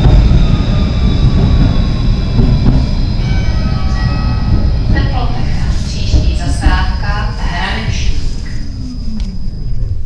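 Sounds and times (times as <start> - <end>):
high electric whine: 0.0 - 10.0
tram rumbling on rails: 0.0 - 10.0.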